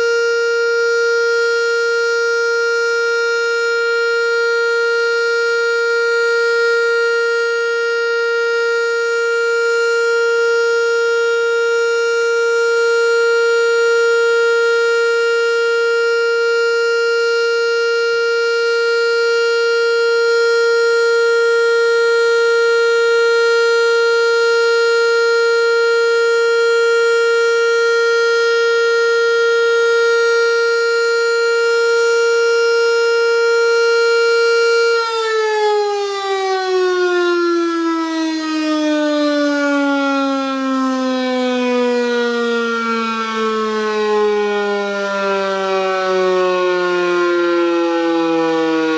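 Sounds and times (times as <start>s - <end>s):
warning siren steady tone: 0.0s - 48.9s.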